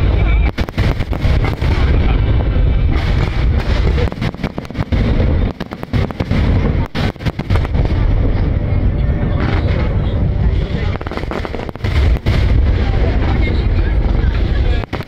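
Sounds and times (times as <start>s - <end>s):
low rumble: 0.0s - 14.9s
fireworks bursting: 0.0s - 15.0s.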